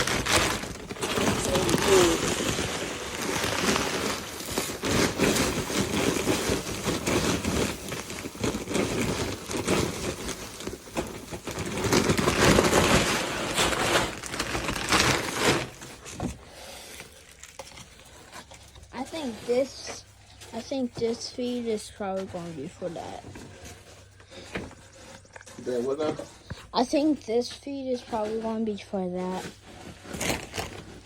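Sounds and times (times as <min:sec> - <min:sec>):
paper feed bag rustling: 0:00.0 - 0:31.0.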